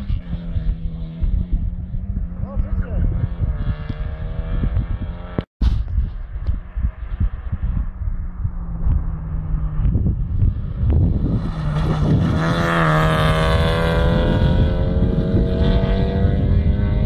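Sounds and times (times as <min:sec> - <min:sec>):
car engine at high revs: 0:00.0 - 0:05.5, 0:06.5 - 0:17.0
wind rumbling on microphone: 0:00.0 - 0:17.0.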